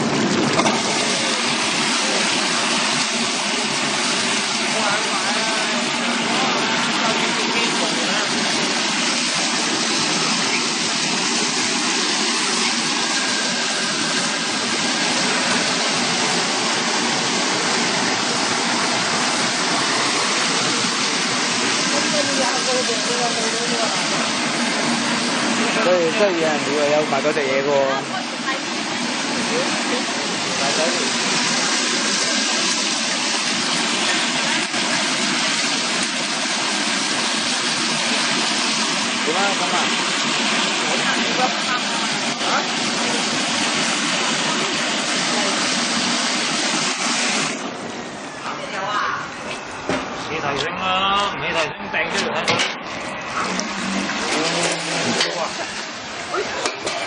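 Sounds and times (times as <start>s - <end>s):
pump and motor noise: 0.0s - 57.0s
vegetable washing machine running: 0.0s - 57.0s
water churning in a tank: 0.0s - 57.0s.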